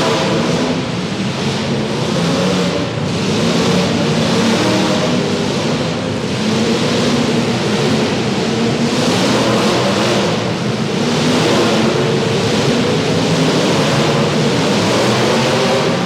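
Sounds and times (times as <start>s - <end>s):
car engines rumbling: 0.0s - 16.0s
noisy rush: 0.0s - 16.0s.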